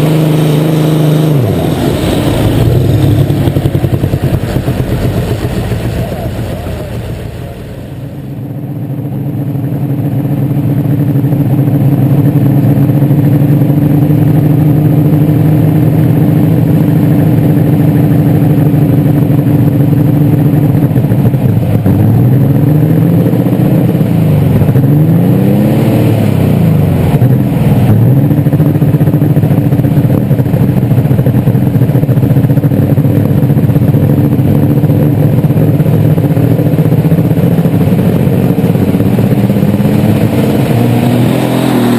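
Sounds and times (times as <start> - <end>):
tractor engine running under load: 0.0 - 25.3, 26.4 - 41.9.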